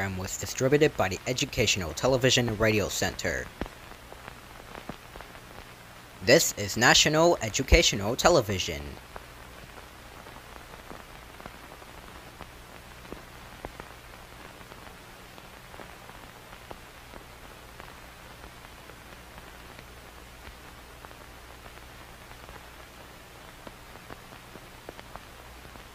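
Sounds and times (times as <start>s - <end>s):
film soundtrack hiss and hum: 0.0s - 25.9s.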